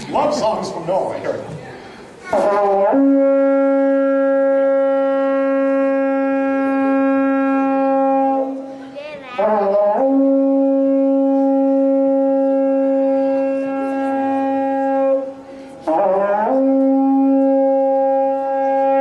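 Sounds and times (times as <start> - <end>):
brass horn notes: 2.4 - 8.7, 9.4 - 19.0.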